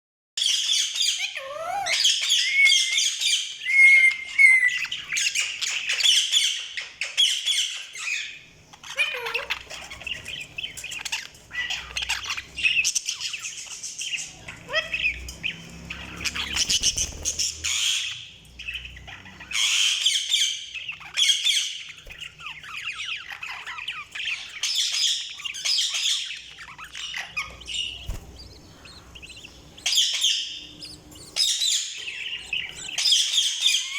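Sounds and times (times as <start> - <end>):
budgies chirping and warbling: 0.4 - 33.9.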